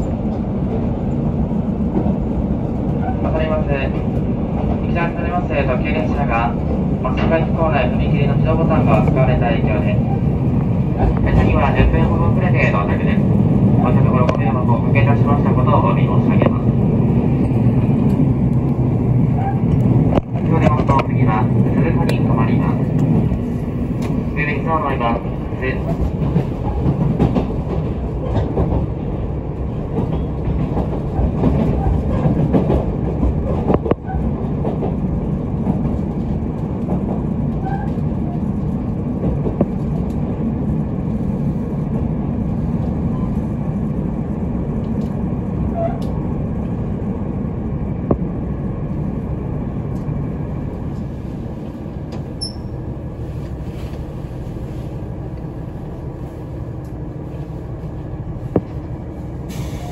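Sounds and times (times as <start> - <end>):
railcar rumble: 0.0 - 59.9.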